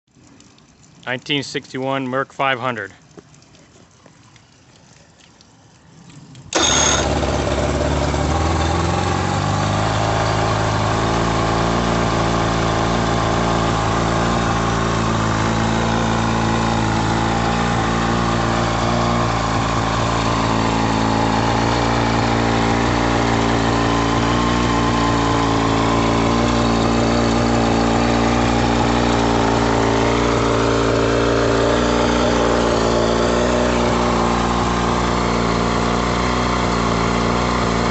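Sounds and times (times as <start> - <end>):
outboard motor running: 0.1 - 37.9.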